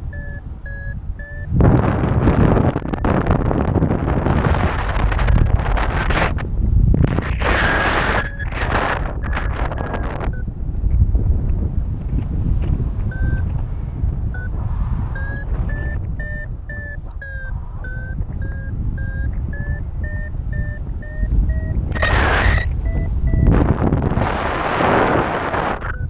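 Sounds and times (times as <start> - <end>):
variometer beeping: 0.0 - 6.4, 7.1 - 10.8, 12.2 - 26.0
wind rushing over microphone: 0.0 - 26.0.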